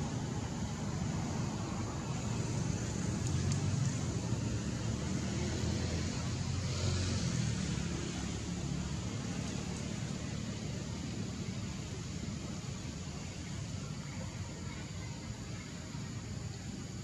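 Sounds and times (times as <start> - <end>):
even hiss: 0.0 - 17.0
low outdoor rumble: 0.0 - 17.0.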